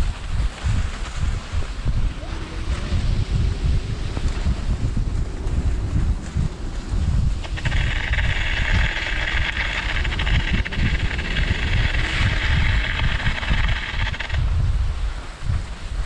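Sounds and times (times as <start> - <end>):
wind buffeting microphone: 0.0 - 16.0
steady high hiss: 1.4 - 15.9.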